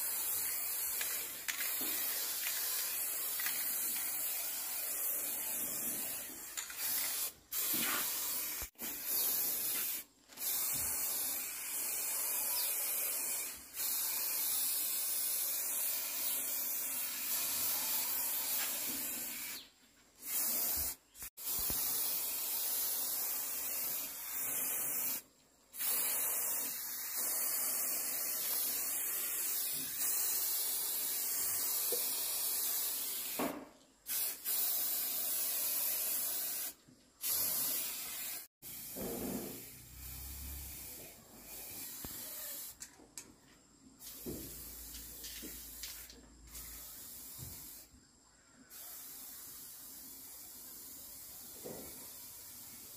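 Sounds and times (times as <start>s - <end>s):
spray-paint can hissing: 0.0s - 42.9s, 44.0s - 47.9s, 48.7s - 52.9s.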